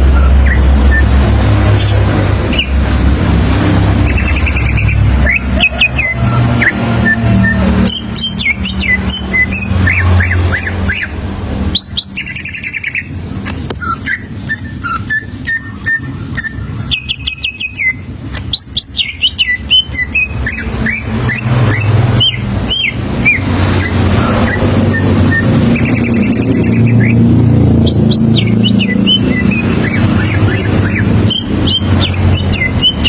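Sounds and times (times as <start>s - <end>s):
bird singing whistled glides: 0.0s - 2.8s, 3.8s - 13.1s, 13.8s - 33.0s.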